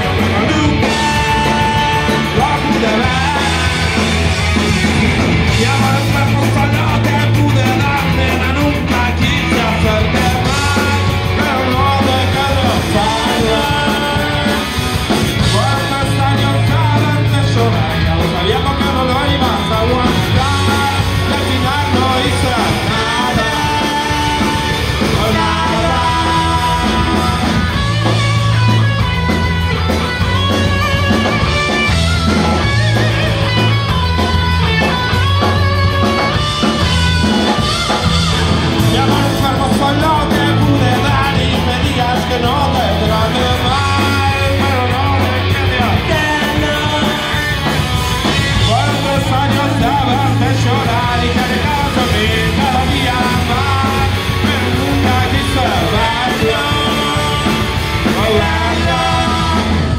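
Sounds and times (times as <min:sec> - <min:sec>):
live rock band playing: 0:00.0 - 0:59.9
man singing lead: 0:00.0 - 0:59.9.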